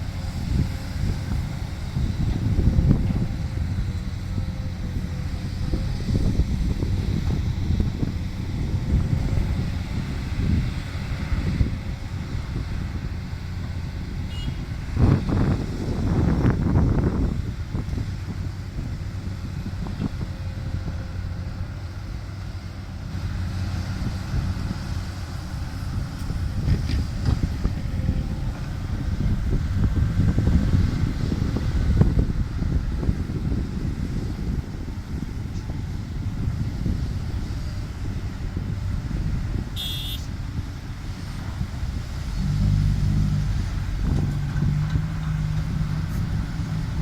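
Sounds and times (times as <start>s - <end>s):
excavator diesel engine droning: 0.0s - 47.0s.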